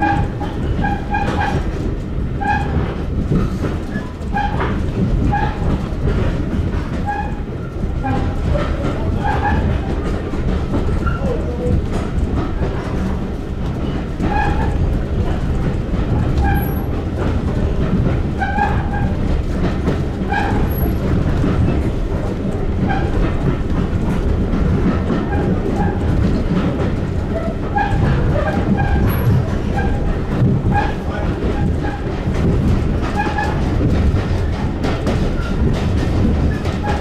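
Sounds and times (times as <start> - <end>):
wheels rumbling on rails: 0.0 - 37.0.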